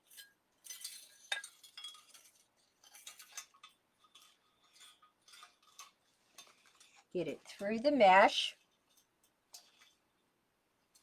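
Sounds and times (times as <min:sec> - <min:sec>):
small clicks and clinks: 0:00.0 - 0:07.8, 0:08.6 - 0:10.0
mesh crinkling and rustling: 0:00.0 - 0:11.0.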